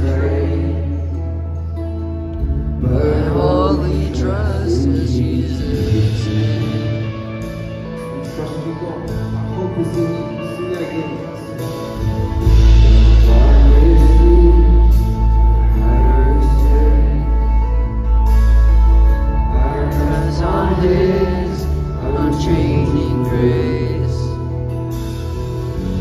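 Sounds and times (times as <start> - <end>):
heavy deep bass: 0.0 - 10.4, 11.9 - 26.0
live worship music with singing: 0.0 - 26.0.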